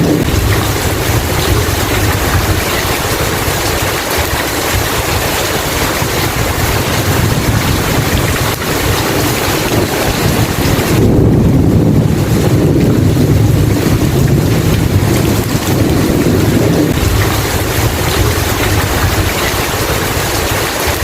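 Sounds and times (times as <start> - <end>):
heavy rain hissing: 0.0 - 21.0
rolling thunder rumble: 0.0 - 21.0.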